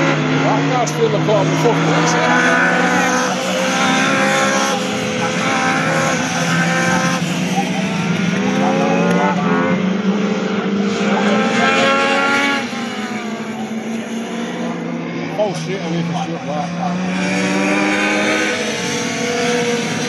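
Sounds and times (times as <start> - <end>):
race cars racing past: 0.0 - 20.0.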